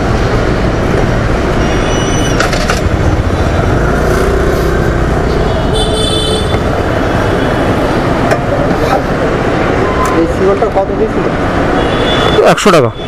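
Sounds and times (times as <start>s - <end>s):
engines and road traffic rumble: 0.0s - 13.0s.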